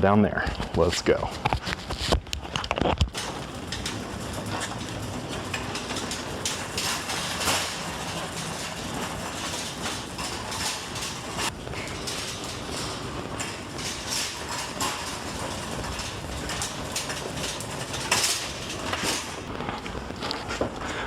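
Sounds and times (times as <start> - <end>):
shopping cart rattling: 0.1 - 21.0.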